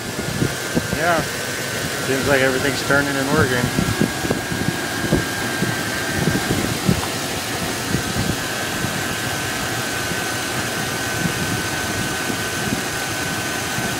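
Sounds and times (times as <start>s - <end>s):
engine idling: 0.0s - 13.9s
high belt whine: 0.0s - 13.9s.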